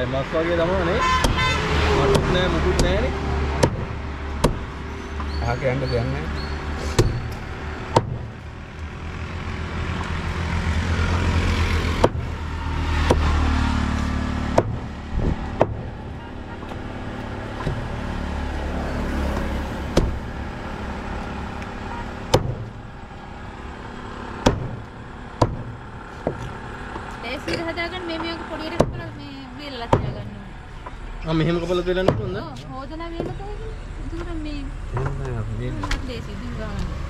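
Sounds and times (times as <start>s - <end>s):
road traffic passing: 0.0s - 37.0s.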